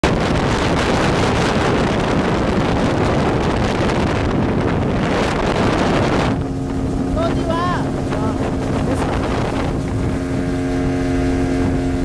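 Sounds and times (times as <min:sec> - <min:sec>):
speedboat motor: 0:00.0 - 0:12.0
wind buffeting microphone: 0:00.0 - 0:12.0.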